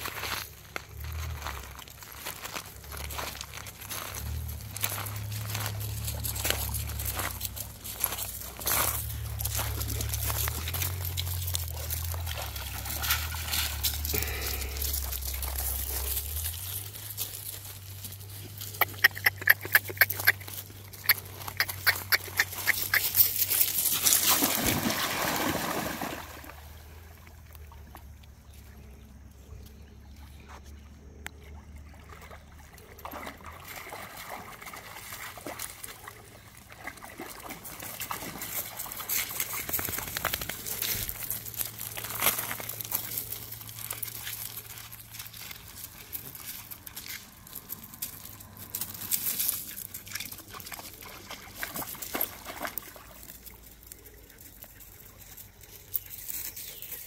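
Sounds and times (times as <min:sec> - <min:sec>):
dogs splashing in water: 0:03.5 - 0:27.9, 0:31.5 - 0:46.7, 0:49.1 - 0:55.2.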